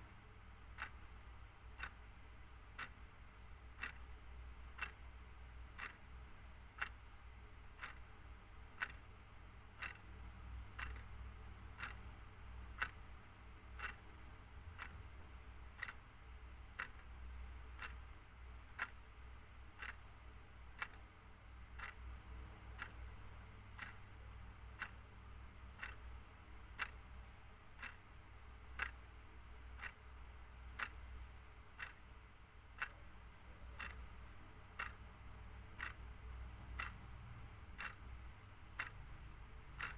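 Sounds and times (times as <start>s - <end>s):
low steady hum: 0.0s - 39.9s
clock ticking: 0.4s - 39.9s.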